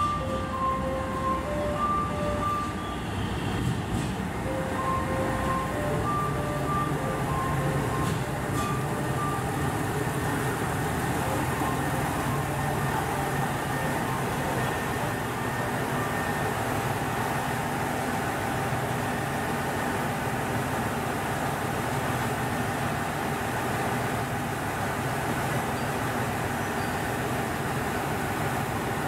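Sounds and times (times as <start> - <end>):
diesel train engines humming: 0.0 - 29.0.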